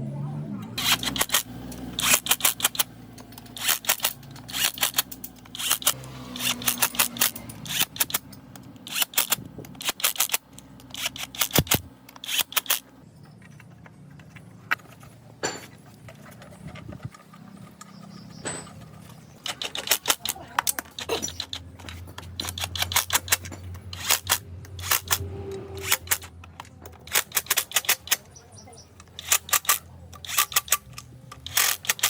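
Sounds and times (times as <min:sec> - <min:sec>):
rapid metallic clicking and rattling: 0:00.8 - 0:28.4, 0:29.0 - 0:32.0.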